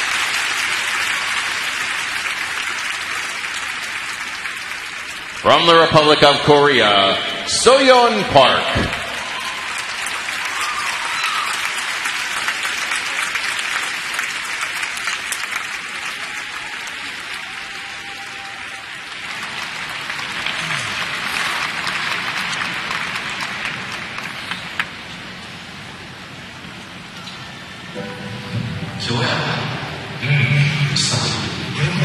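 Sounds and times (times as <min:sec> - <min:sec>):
crowd applauding: 0:00.0 - 0:26.6.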